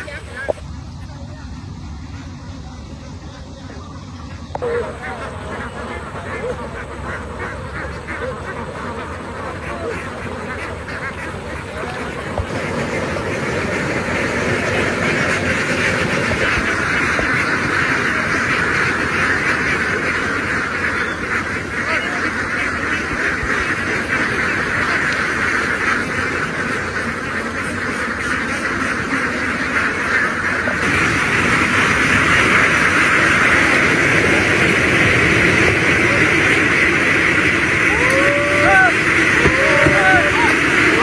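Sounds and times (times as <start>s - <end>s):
flock of ducks quacking: 0.0s - 41.0s.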